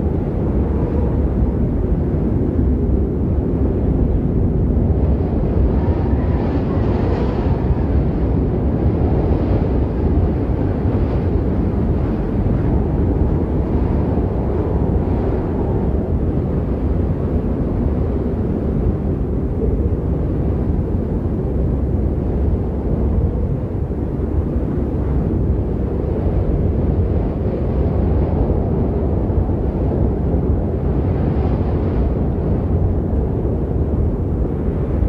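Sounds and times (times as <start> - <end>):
low rumbling wind: 0.0 - 35.0.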